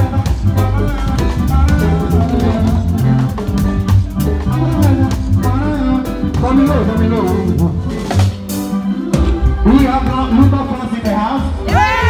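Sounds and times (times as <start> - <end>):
drum kit groove: 0.0 - 12.0
electric bass guitar: 0.0 - 12.0
man singing through pa: 0.0 - 12.0.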